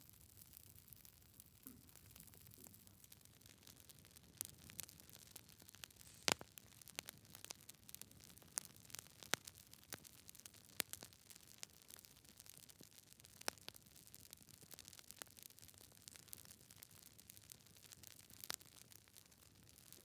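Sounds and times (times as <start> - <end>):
logs crackling in fireplace: 0.3 - 20.0.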